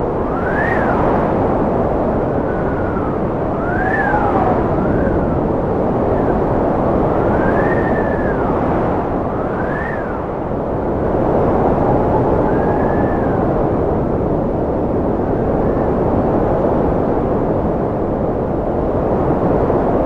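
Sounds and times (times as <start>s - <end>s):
strong wind howling: 0.0s - 20.0s.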